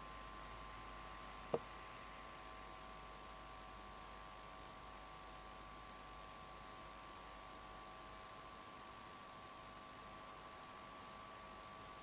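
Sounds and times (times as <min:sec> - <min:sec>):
faint electrical hum: 0:00.0 - 0:12.0
tape hiss: 0:00.0 - 0:12.0.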